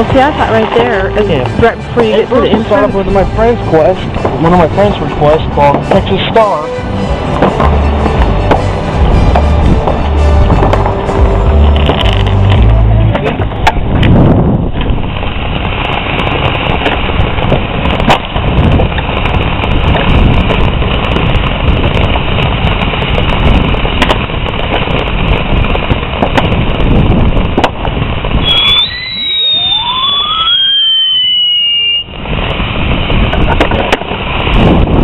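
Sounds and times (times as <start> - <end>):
whistling fireworks: 0.0 - 12.9, 13.5 - 35.0
firework cracks: 0.0 - 35.0
firework fountain hissing: 0.0 - 35.0.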